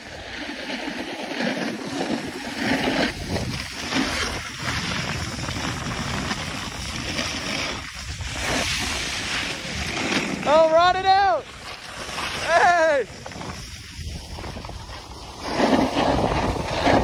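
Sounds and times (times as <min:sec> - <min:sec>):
snowboard scraping on snow: 0:00.0 - 0:17.0
wind on microphone: 0:00.0 - 0:17.0.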